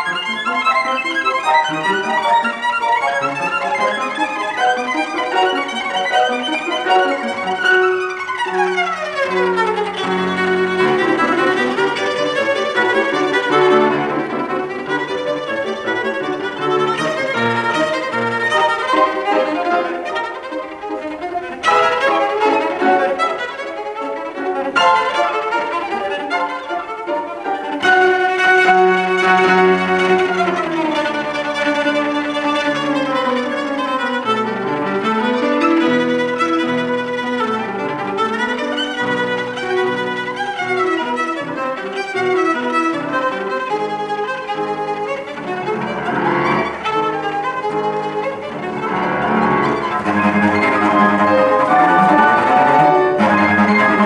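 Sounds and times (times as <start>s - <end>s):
bowed cello: 0.0s - 54.0s
piano accompaniment: 0.0s - 54.0s.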